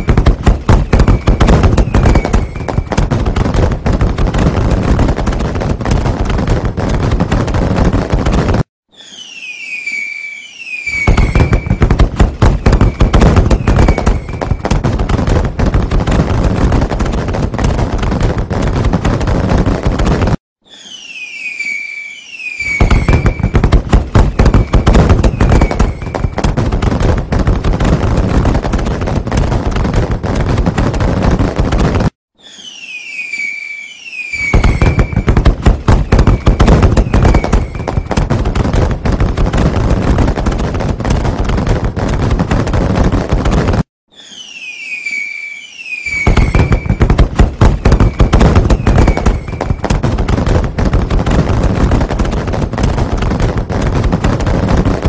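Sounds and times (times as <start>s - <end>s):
fireworks crackling bangs: 0.0s - 55.0s
fireworks whistling: 0.0s - 55.0s.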